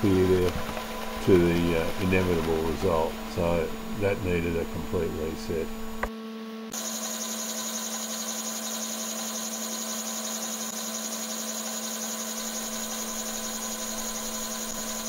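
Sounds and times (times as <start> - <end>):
milling machine running: 0.0 - 6.1, 6.7 - 15.0.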